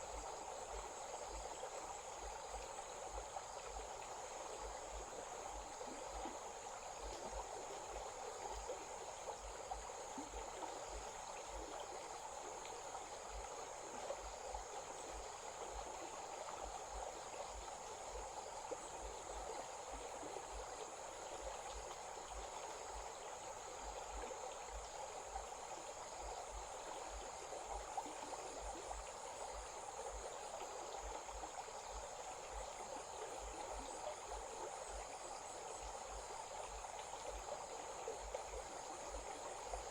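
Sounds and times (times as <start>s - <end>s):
insects chirring: 0.0s - 39.9s
stream running: 0.0s - 39.9s.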